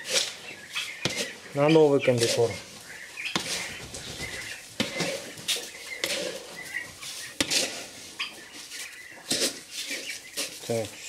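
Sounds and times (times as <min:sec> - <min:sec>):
scoop scraping dry feed: 0:00.0 - 0:03.8, 0:04.7 - 0:11.0.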